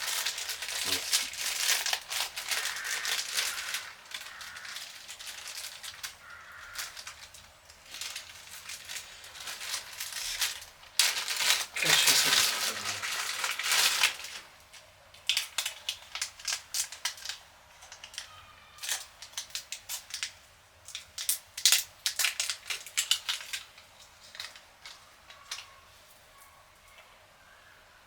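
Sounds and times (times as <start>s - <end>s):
packaging rustling: 0.0s - 26.2s.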